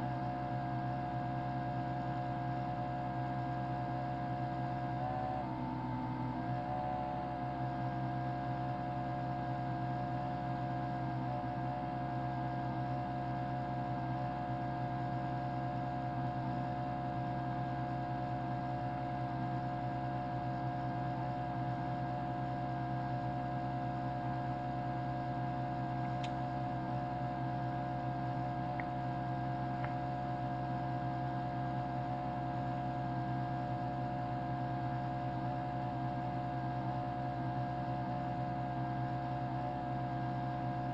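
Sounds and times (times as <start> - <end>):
mechanical television hum and whine: 0.0 - 40.9.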